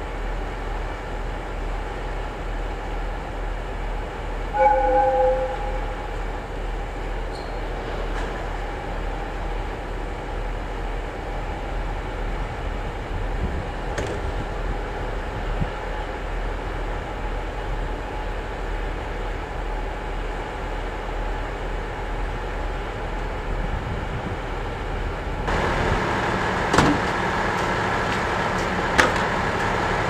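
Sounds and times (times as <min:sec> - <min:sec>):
diesel railcar engine idling: 0:00.0 - 0:30.0.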